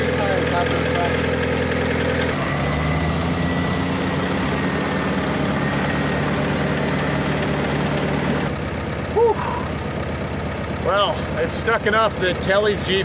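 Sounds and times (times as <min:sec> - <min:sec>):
off-road vehicle engine idling: 0:00.0 - 0:13.0.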